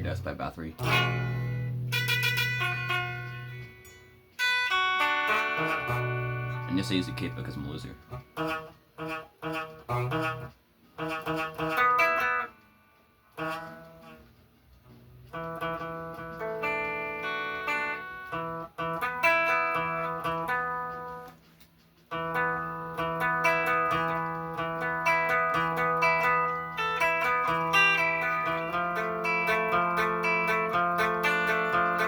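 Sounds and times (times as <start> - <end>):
acoustic guitar picking and chords: 0.0 - 32.0.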